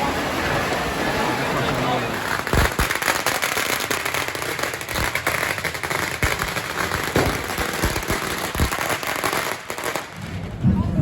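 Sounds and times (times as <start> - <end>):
firecrackers crackling: 0.0 - 11.0
loud firecracker bangs: 2.1 - 11.0.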